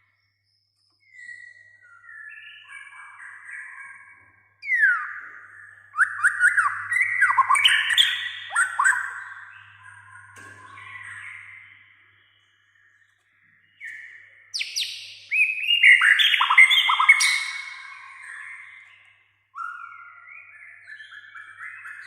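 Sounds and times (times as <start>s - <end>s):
bird singing whistled notes: 0.0s - 22.0s.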